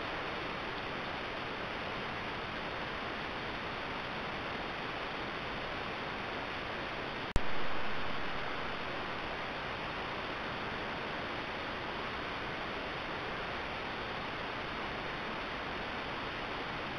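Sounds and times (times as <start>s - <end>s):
faint high whine: 0.0s - 16.9s
microphone hiss: 0.0s - 16.9s.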